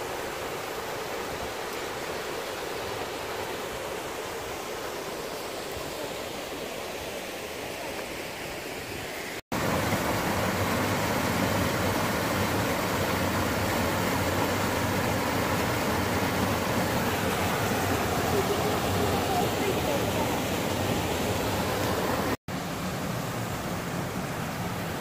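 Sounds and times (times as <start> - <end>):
river rushing over rocks: 0.0 - 25.0.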